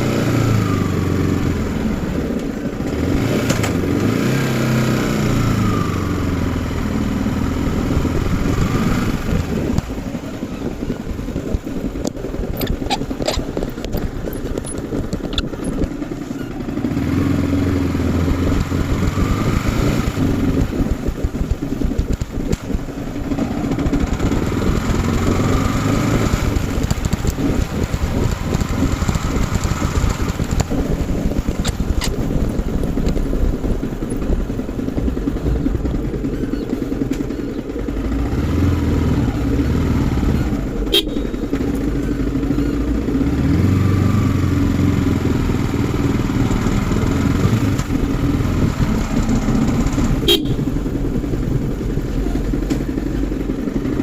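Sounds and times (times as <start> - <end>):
motorcycle engine revving: 0.0 - 54.0
road and wind noise: 0.0 - 54.0.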